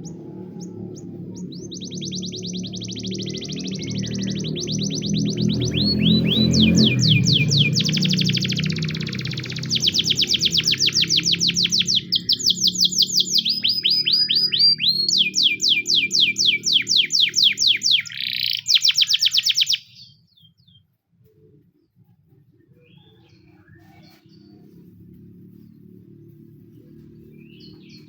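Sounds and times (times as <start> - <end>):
canary singing trills: 0.0 - 20.8, 22.8 - 28.0.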